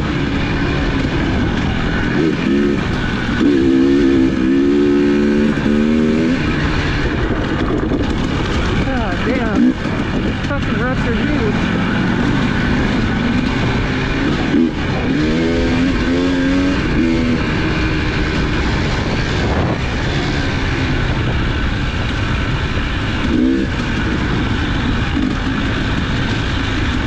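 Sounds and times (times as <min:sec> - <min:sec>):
off-road engine running: 0:00.0 - 0:27.0
wind rush on microphone: 0:00.0 - 0:27.0.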